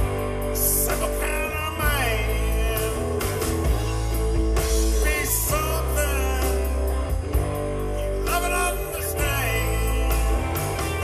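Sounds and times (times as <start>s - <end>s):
bass line: 0.0s - 11.0s
drums: 0.0s - 11.0s
electric guitars: 0.0s - 11.0s
keyboard: 0.0s - 11.0s.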